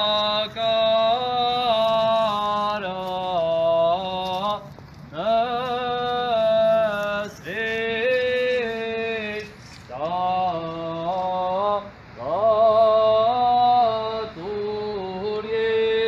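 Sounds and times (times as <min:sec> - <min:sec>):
slow mournful chant: 0:00.0 - 0:16.0.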